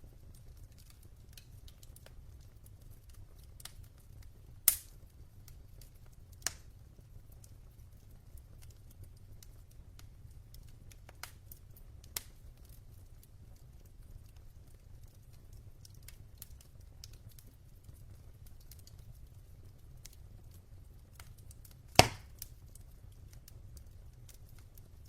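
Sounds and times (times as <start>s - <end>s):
crackles and pops from logs: 0.0s - 25.0s
wood fire burning: 0.0s - 25.0s.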